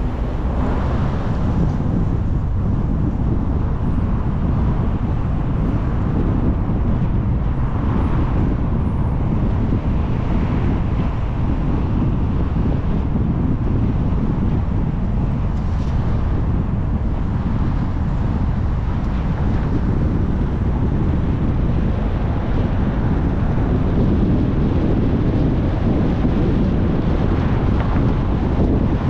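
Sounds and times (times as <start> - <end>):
car road noise: 0.0 - 29.0
wind buffeting microphone: 0.0 - 29.0.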